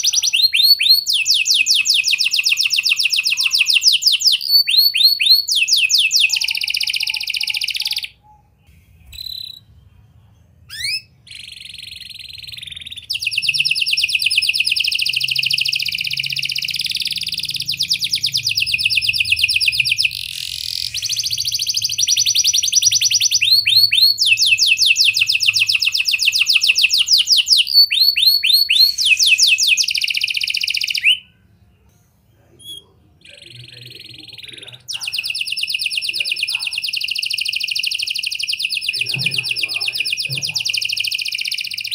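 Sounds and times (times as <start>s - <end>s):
canary singing fast trills: 0.0s - 31.8s, 32.4s - 41.9s.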